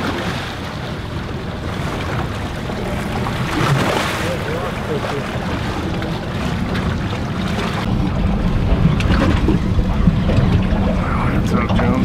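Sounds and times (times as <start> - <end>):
water washing against hull: 0.0 - 12.0
wind buffeting microphone: 0.0 - 12.0.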